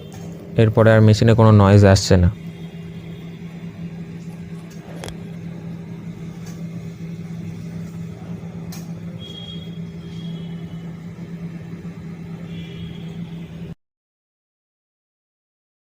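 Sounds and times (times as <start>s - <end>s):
microwave oven humming: 0.0s - 13.8s.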